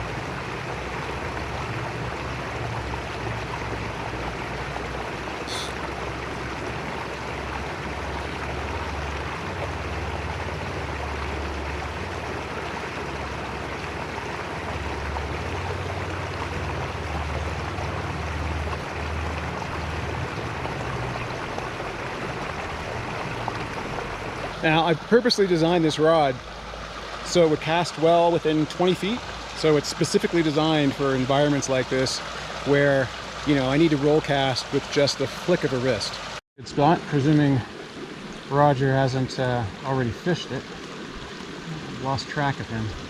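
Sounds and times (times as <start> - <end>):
creek water rushing over rocks: 0.0 - 43.0.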